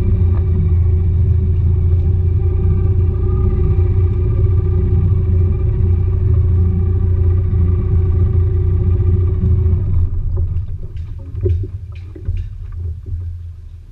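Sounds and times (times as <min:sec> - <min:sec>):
outboard engine idling: 0:00.0 - 0:13.9.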